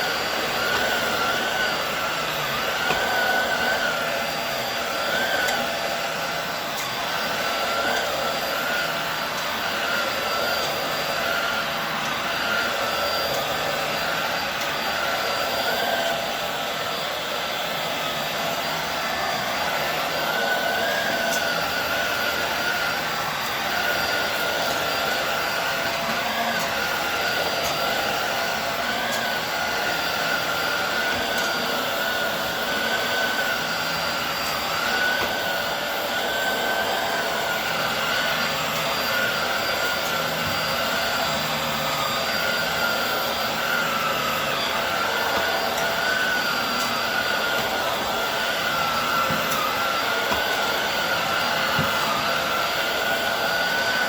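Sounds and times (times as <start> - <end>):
upright vacuum cleaner running: 0.0 - 54.0.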